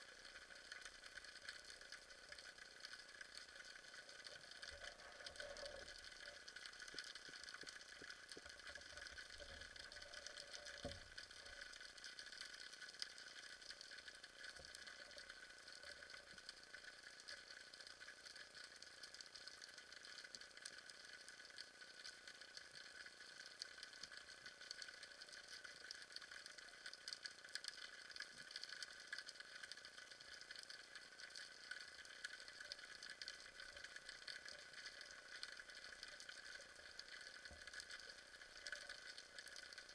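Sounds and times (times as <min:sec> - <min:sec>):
tiny clicks and crackles: 0:00.0 - 0:39.9.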